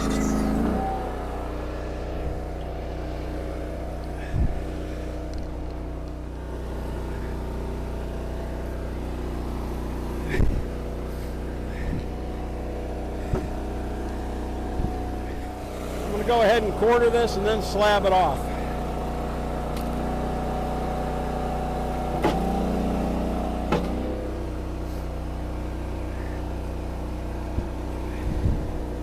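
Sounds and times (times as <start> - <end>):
log splitter engine running: 0.0 - 29.0.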